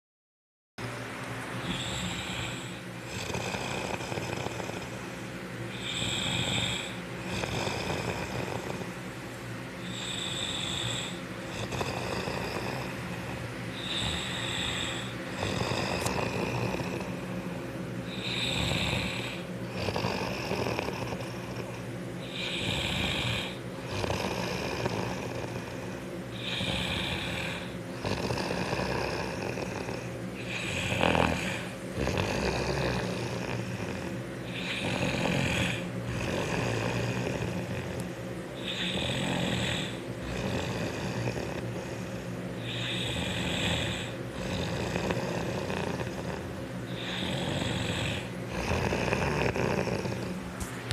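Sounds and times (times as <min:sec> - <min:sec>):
man snoring: 0:01.6 - 0:05.1, 0:05.7 - 0:09.0, 0:09.8 - 0:50.9.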